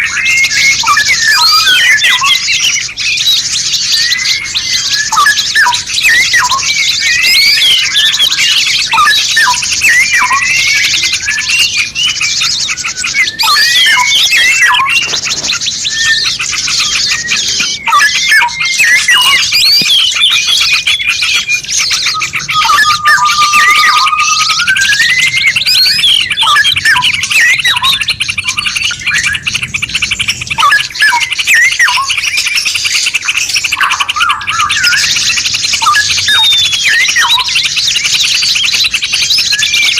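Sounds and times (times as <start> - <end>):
long rising bird whistle: 0.0 - 39.9
songbirds singing: 0.0 - 39.9.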